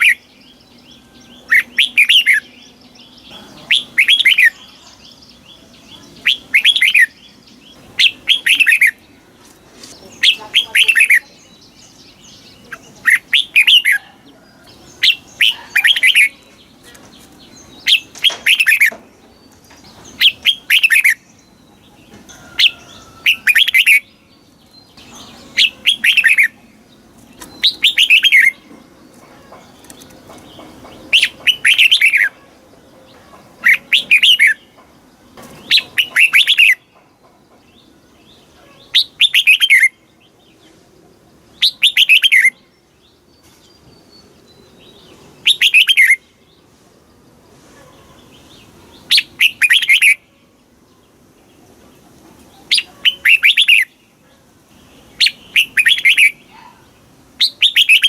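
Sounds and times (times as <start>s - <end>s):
bird singing fluty phrases: 0.0s - 58.0s.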